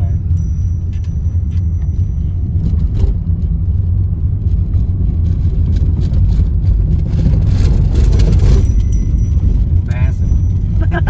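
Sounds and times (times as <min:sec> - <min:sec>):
car cabin rumble on dirt track: 0:00.0 - 0:11.0
rattles and knocks: 0:00.0 - 0:11.0.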